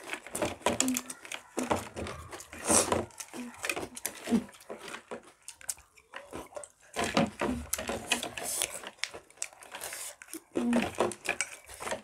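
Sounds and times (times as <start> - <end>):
crunchy snacks being chewed: 0.0 - 12.0.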